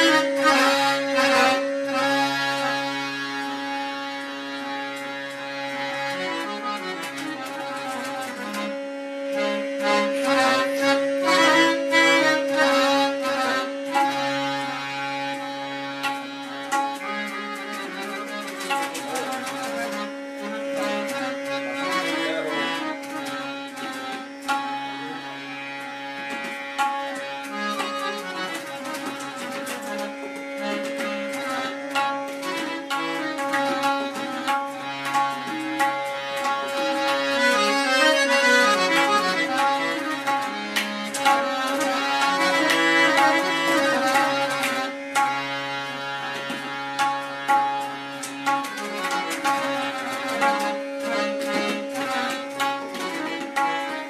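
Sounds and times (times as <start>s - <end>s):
harmonium melody with drone: 0.0s - 54.0s
tabla strokes: 0.0s - 54.0s.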